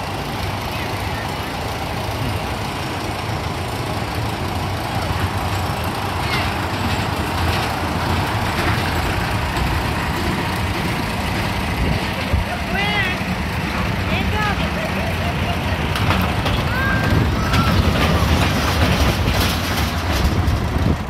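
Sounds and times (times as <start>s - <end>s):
roller coaster rumbling on track: 0.0s - 21.0s.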